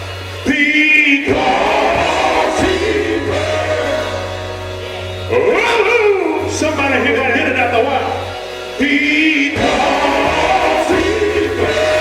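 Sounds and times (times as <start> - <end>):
singers in harmony: 0.0 - 7.2, 8.3 - 12.0.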